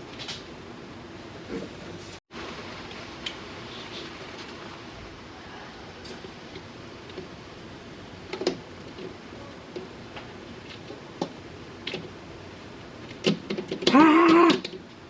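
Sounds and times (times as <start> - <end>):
steady low hiss: 0.0 - 13.8.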